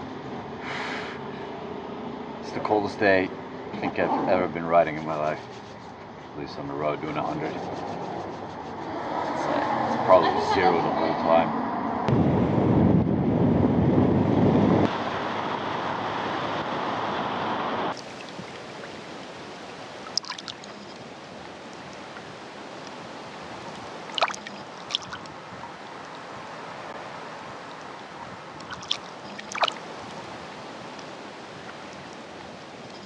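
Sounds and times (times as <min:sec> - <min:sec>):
wind and road rush: 0:00.0 - 0:33.0.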